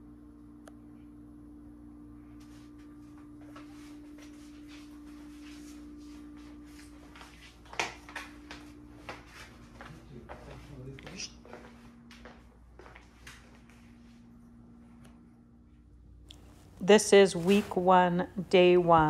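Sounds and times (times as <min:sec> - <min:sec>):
steady low hum: 0:00.0 - 0:19.0
soft footsteps: 0:02.3 - 0:15.0, 0:16.3 - 0:19.0.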